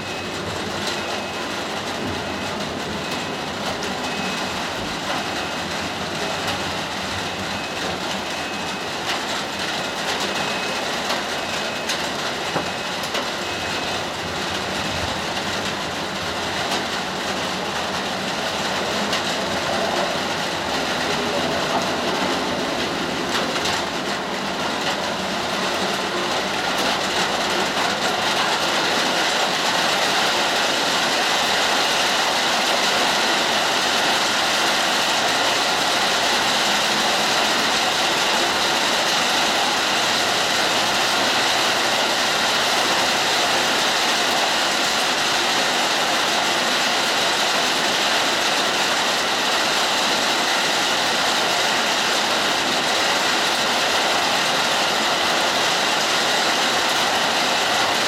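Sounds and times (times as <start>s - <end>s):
hard rain falling: 0.0s - 58.0s.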